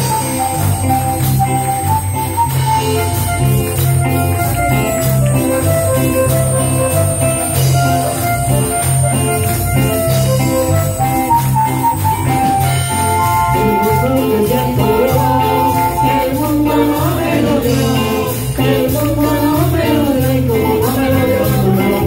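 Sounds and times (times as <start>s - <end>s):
upbeat latin-style band: 0.0s - 22.0s.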